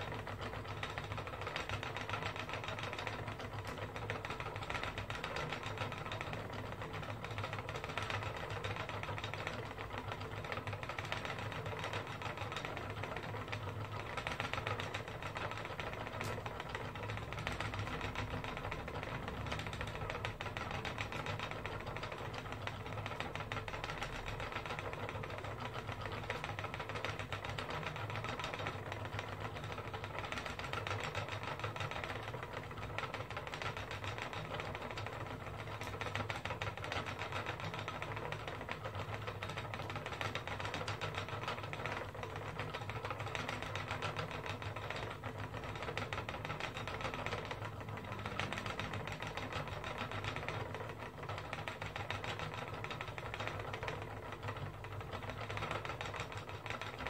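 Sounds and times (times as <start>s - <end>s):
spinning wheel whirring and clicking: 0.0s - 57.0s.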